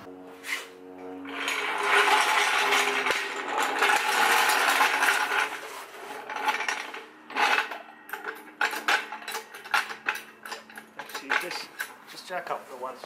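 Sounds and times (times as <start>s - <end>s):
metal tools clattering: 1.3s - 12.6s.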